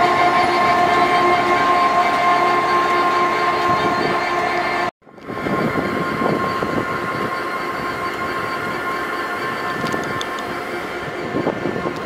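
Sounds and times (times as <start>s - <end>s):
diesel locomotive engine whining: 0.0s - 12.0s
train rail rumble: 0.0s - 12.0s.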